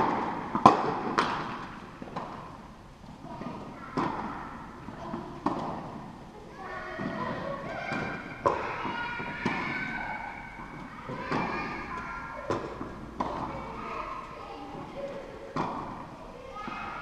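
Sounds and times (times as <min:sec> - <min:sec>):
tennis balls struck and bouncing: 0:00.0 - 0:06.4, 0:07.0 - 0:13.9, 0:14.7 - 0:17.0.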